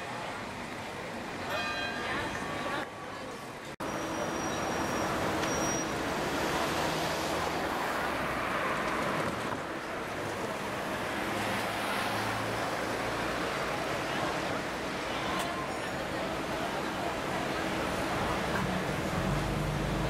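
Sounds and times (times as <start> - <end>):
city bus driving by: 0.0 - 20.0
cars passing: 3.8 - 20.0.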